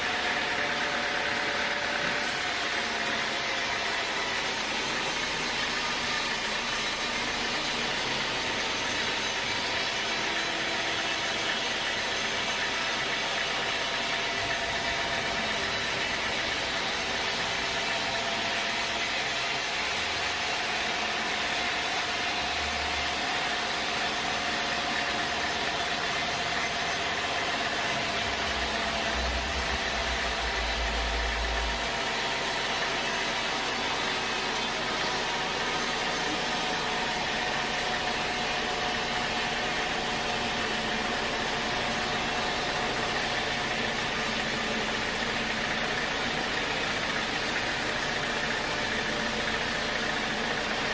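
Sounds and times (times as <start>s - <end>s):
sawmill machinery hum: 0.0s - 50.9s.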